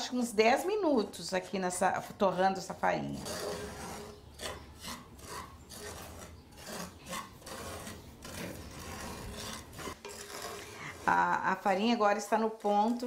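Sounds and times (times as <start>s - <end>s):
wooden spoon scraping cornmeal: 0.0s - 13.0s.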